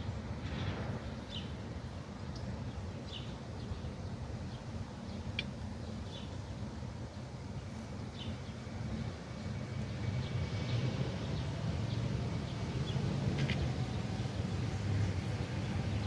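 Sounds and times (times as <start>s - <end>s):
low outdoor rumble: 0.0s - 16.0s
small birds chirping: 2.2s - 16.0s.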